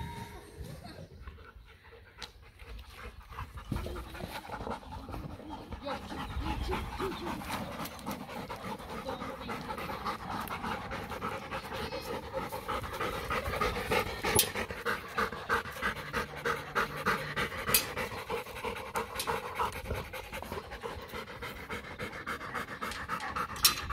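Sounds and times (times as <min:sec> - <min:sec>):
dog panting: 0:01.2 - 0:23.9.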